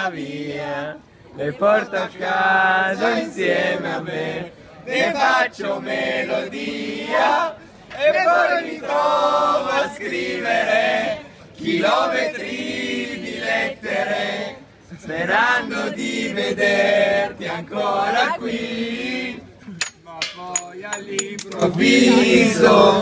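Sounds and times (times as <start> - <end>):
men singing and chanting: 0.0 - 23.0.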